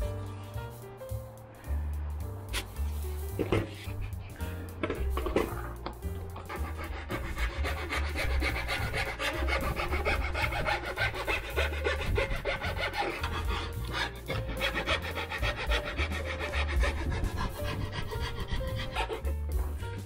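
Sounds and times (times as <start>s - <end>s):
sanding strokes on wood: 2.5s - 20.0s.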